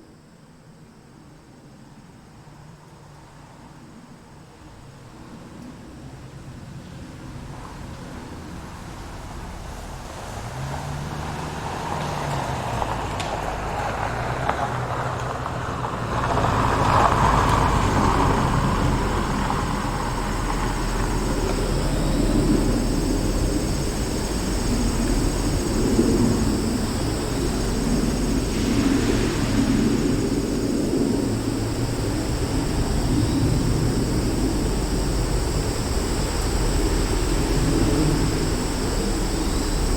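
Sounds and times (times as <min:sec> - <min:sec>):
vehicle engine rumble: 0:07.4 - 0:39.9.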